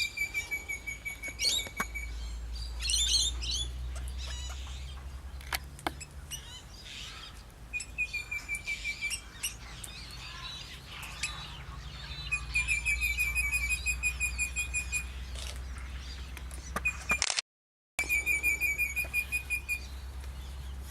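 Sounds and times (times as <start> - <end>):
small birds chirping rapidly: 0.0 - 17.1, 18.0 - 20.9.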